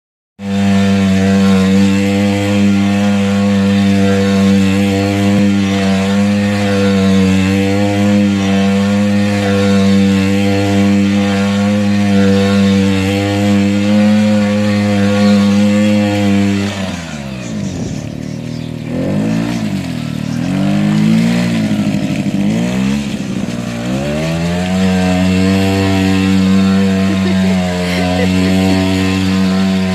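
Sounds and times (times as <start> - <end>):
small quad bike engine: 0.4 - 29.9.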